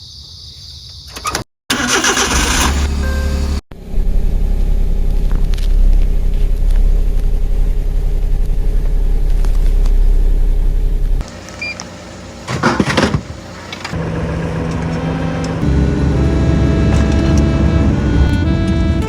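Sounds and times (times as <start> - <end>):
car engine starting and running: 1.7 - 19.0.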